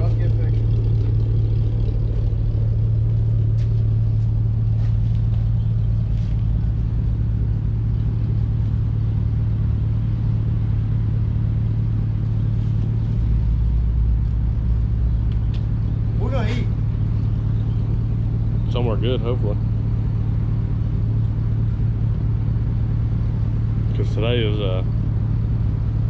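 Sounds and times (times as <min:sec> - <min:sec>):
road rumble: 0:00.0 - 0:26.0
vehicle engine drone: 0:00.0 - 0:26.0.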